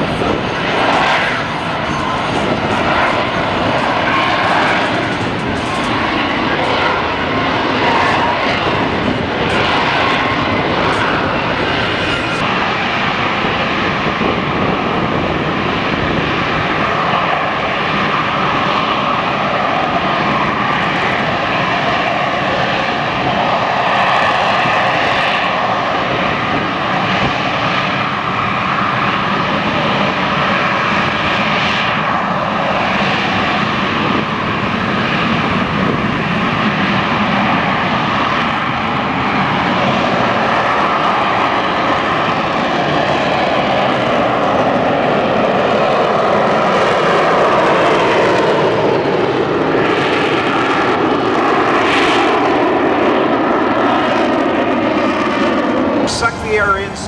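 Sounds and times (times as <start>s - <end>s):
jet engine noise: 0.0s - 57.0s.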